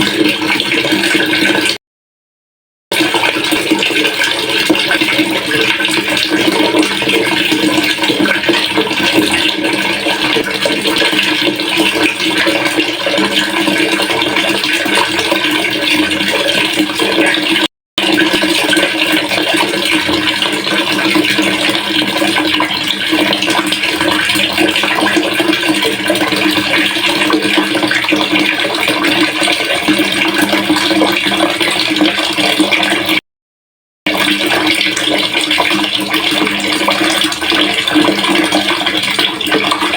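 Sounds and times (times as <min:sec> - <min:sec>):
water pouring into a pail: 0:00.0 - 0:01.8, 0:02.9 - 0:33.2, 0:34.1 - 0:39.9.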